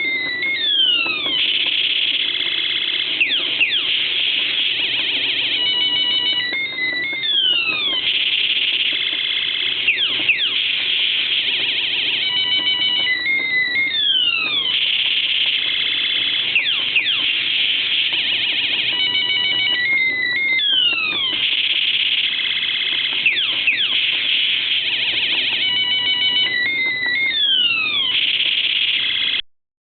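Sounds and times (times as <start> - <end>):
toy electronic laser zaps and beeps: 0.0 - 29.4.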